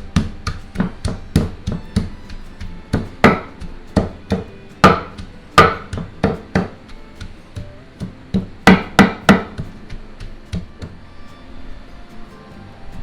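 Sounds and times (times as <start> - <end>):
cabbage being pounded: 0.0 - 11.0.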